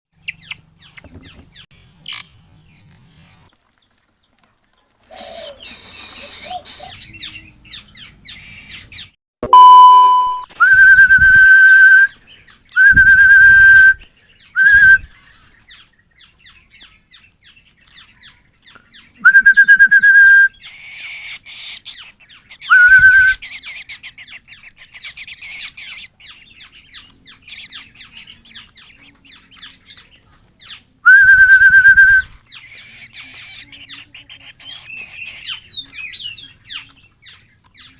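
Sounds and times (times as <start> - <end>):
songbirds chirping: 0.1 - 37.9.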